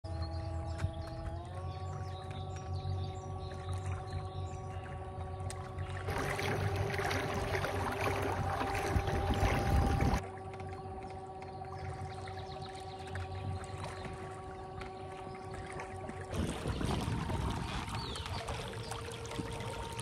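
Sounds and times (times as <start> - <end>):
electric motor whine: 0.1 - 20.0
water churning: 0.1 - 20.0
water washing along hull: 0.1 - 20.0.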